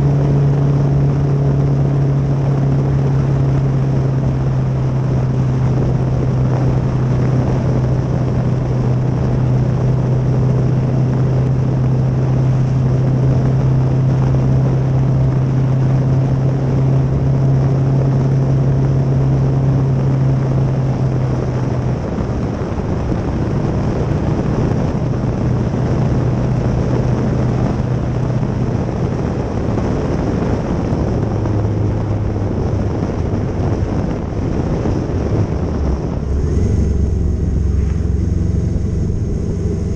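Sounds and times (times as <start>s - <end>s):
motorcycle engine cruising: 0.0s - 39.9s
wind rushing past microphone: 0.0s - 39.9s.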